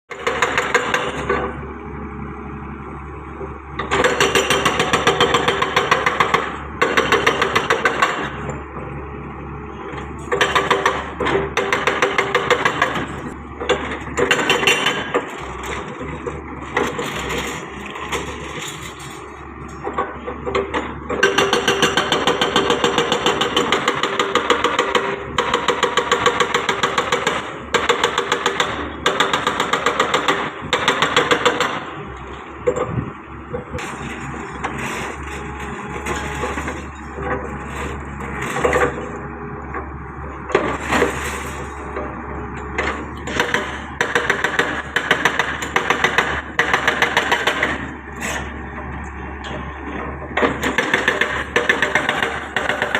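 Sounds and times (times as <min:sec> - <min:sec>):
excavator diesel engine pulsing: 0:00.1 - 0:52.9.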